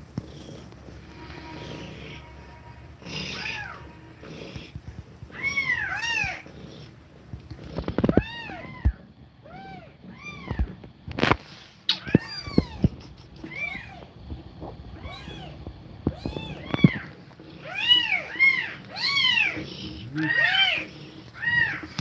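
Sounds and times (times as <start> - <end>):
kittens mewing: 0.1 - 10.8, 11.9 - 22.0.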